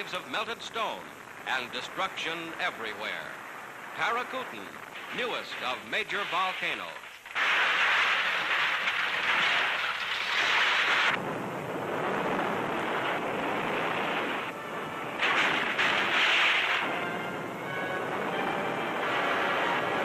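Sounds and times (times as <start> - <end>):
volcano erupting rushing noise: 0.0 - 20.0.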